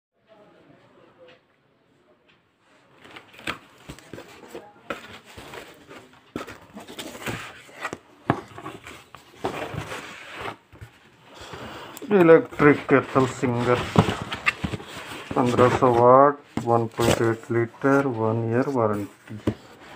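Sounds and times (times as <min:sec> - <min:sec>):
cardboard and tape rustling: 0:02.9 - 0:19.9.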